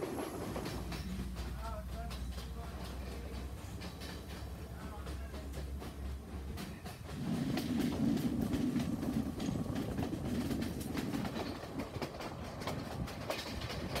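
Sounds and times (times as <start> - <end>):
train wheels rumbling: 0.0 - 14.0
wheel clicks and clatter: 0.0 - 14.0.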